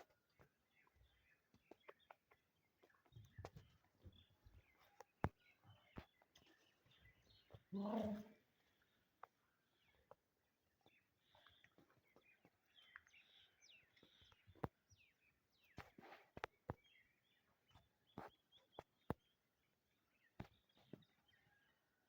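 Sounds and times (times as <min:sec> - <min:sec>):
bird chirps: 0:00.0 - 0:21.7.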